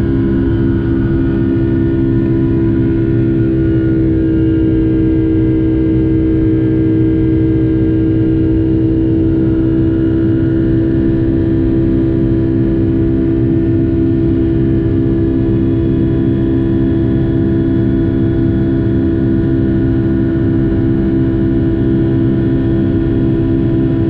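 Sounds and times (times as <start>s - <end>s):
jet engine drone in cabin: 0.0s - 24.0s.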